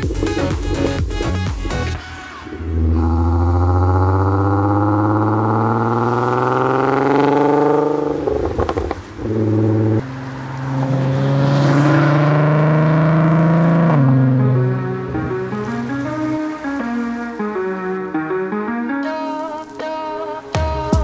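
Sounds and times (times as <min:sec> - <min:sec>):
car engine accelerating hard: 0:00.0 - 0:17.2
engine crackle: 0:00.0 - 0:17.6.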